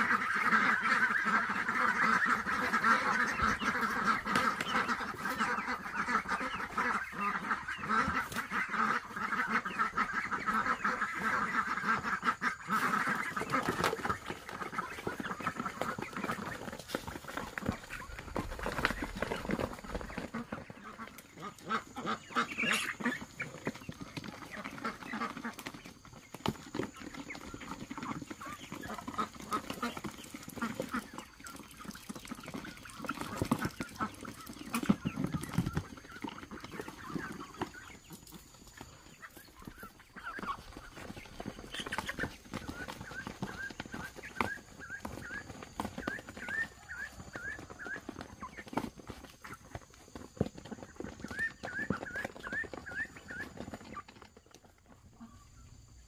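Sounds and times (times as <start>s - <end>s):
fowl calling: 0.0s - 56.0s.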